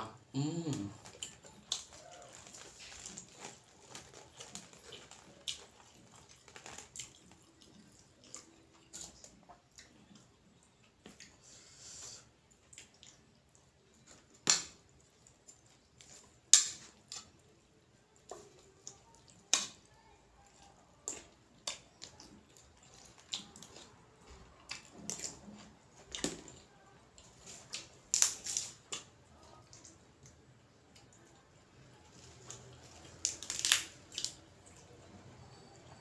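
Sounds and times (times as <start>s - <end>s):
person chewing crunchy greens: 0.5s - 14.4s, 15.0s - 30.4s, 32.1s - 34.9s.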